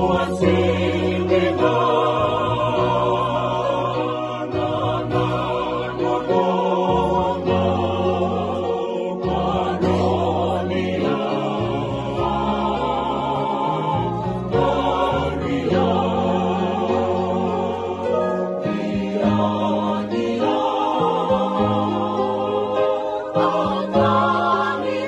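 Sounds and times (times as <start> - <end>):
group singing in harmony: 0.0 - 25.0.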